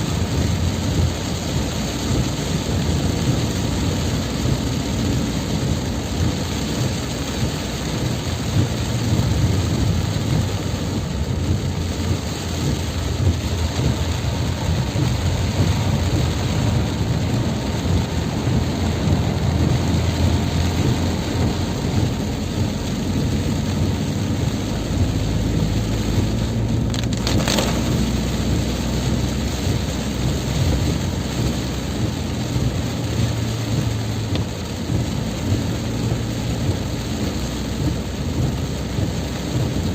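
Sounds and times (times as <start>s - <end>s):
low rumble: 0.0s - 39.8s
heavy rain pouring: 0.0s - 39.9s.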